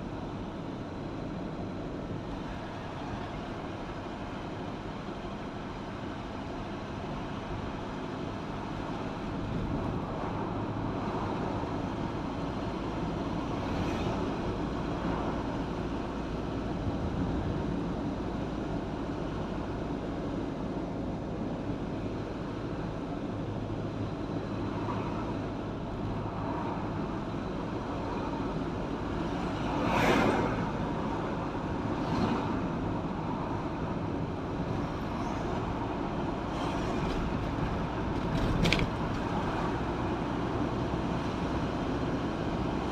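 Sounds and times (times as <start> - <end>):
vehicle road and engine noise: 0.0 - 42.9.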